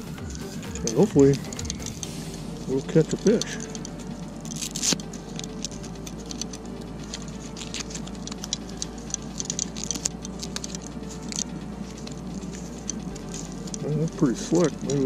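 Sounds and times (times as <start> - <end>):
velcro strap clicks and rustles: 0.0 - 15.0.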